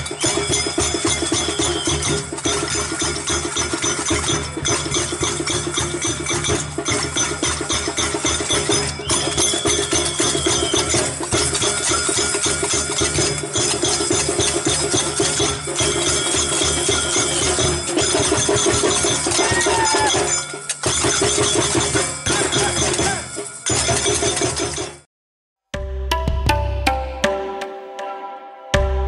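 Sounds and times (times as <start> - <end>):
music with fast dense beat: 0.0 - 23.2, 25.7 - 28.1, 28.7 - 29.0.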